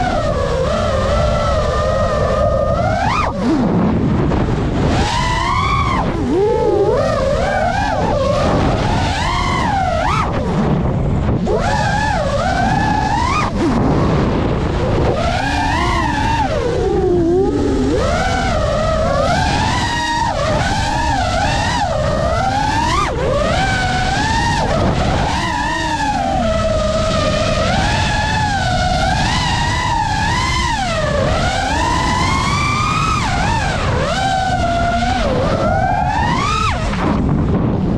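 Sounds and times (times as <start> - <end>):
drone motors whining: 0.0 - 37.9.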